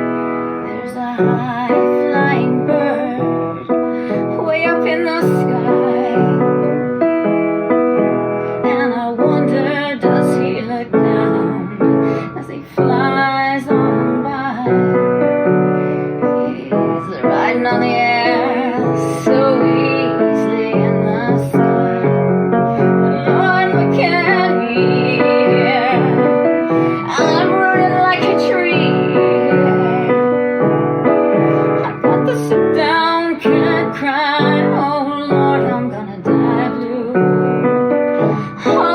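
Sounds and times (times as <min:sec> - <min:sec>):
piano accompaniment: 0:00.0 - 0:38.9
woman singing with vibrato: 0:00.6 - 0:07.0, 0:08.6 - 0:38.9.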